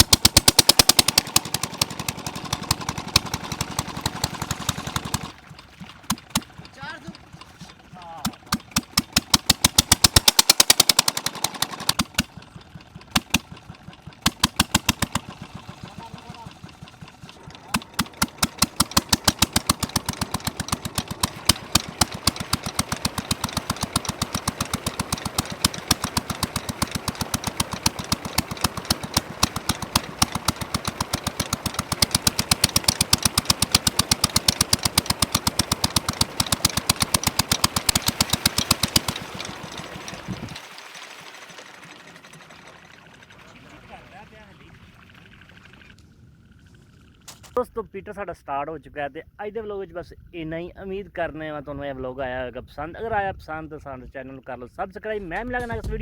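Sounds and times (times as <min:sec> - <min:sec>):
diesel engine chugging: 0:00.0 - 0:47.7.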